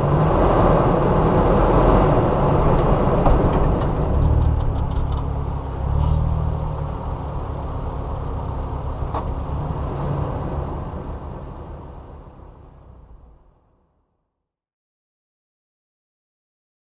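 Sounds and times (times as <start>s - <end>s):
vehicle engine and tyre rumble: 0.0s - 14.2s.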